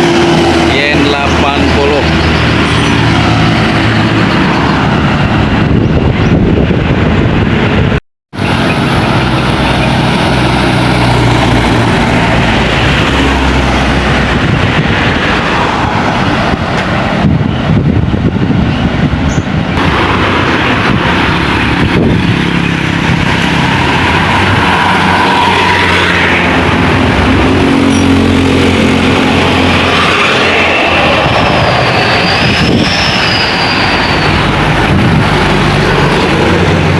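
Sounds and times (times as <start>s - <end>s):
heavy traffic passing: 0.0s - 36.9s
tyre and road noise: 0.0s - 36.9s.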